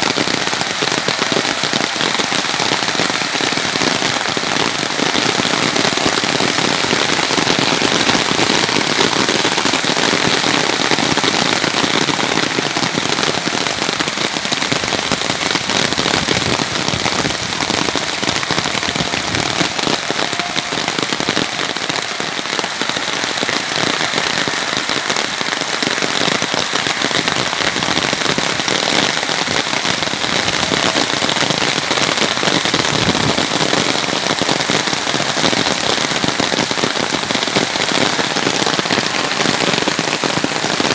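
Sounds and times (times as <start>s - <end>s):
hail and rain pelting ground: 0.0s - 40.9s.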